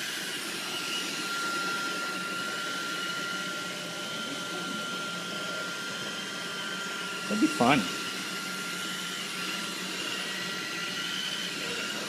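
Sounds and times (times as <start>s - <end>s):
electric appliance whirring: 0.0s - 12.0s.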